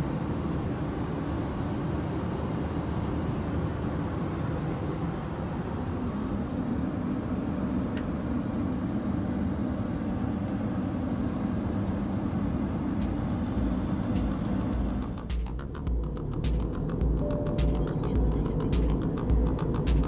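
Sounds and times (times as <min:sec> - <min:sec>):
thin high-pitched whine: 0:00.0 - 0:15.6, 0:16.4 - 0:20.0
airflow and engine rumble: 0:00.0 - 0:20.0.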